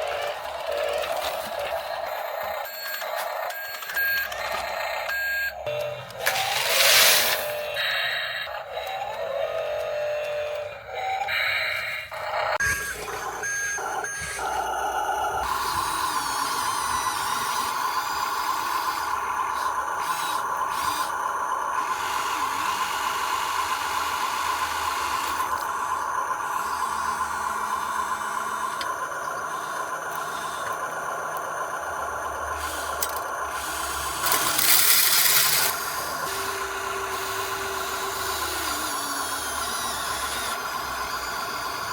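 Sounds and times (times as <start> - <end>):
electric motor whining: 0.0 - 41.9.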